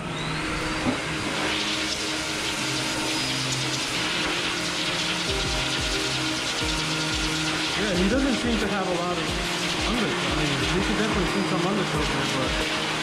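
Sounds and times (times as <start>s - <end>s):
pet blow dryer blowing air: 0.0s - 13.0s.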